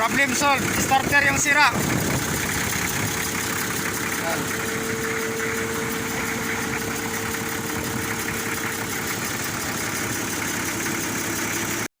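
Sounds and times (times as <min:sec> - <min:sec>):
engine idling: 0:00.0 - 0:11.9.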